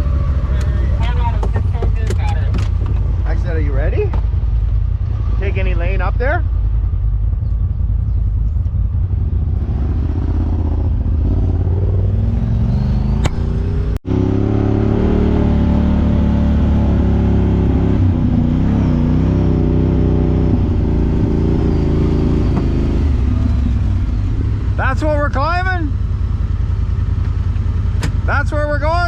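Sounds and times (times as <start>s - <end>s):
utv engine running: 0.0s - 29.0s.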